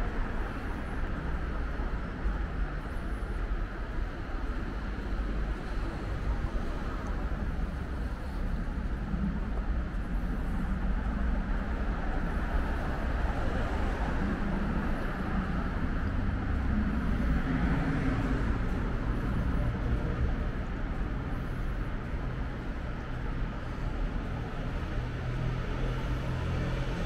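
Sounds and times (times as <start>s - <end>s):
low rumble of passing cars: 0.0s - 27.0s.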